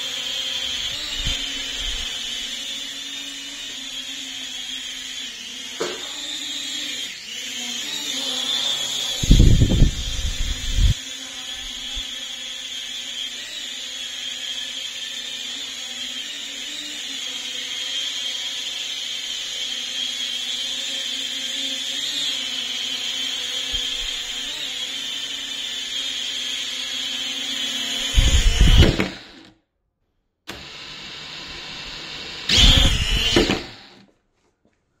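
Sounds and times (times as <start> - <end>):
drone propellers whirring: 0.0 - 29.4, 30.6 - 34.0.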